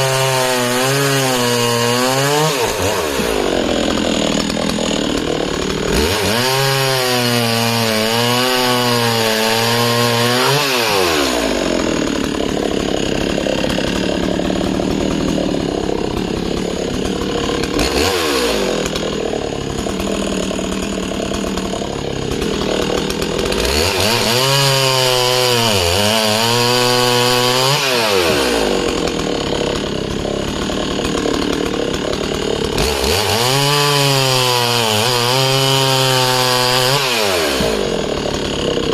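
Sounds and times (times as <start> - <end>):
chain cutting through wood: 0.0 - 38.9
chainsaw at full throttle: 0.0 - 38.9.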